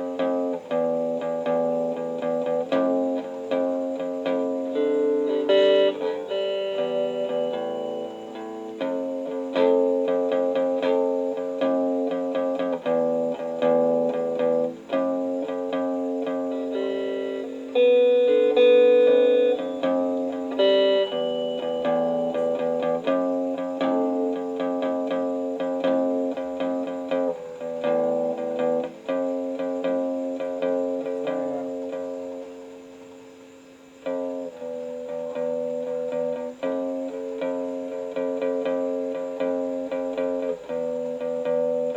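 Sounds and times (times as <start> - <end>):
electric guitar chords and runs: 0.0 - 41.9.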